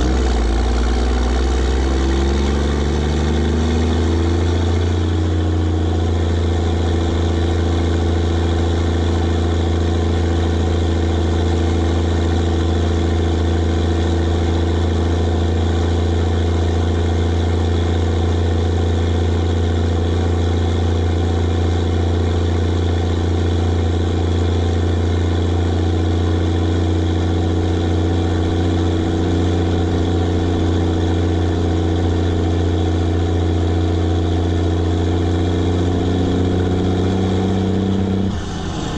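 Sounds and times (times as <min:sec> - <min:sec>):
diesel truck engine droning: 0:00.0 - 0:38.9.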